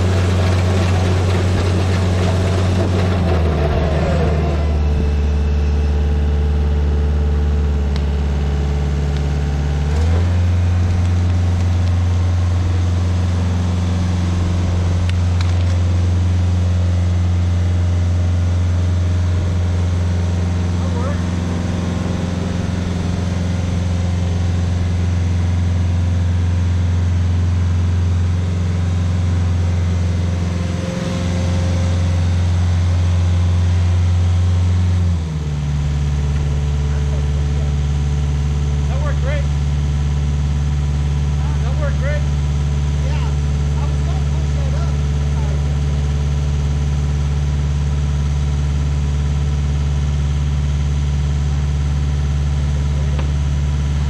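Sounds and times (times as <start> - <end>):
stump grinder engine running: 0.0 - 54.0.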